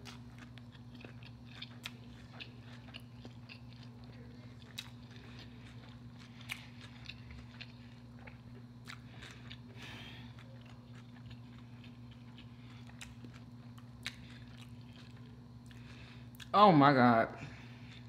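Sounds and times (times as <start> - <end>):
person chewing: 0.0 - 16.5, 17.5 - 18.0
low steady hum: 0.0 - 18.0.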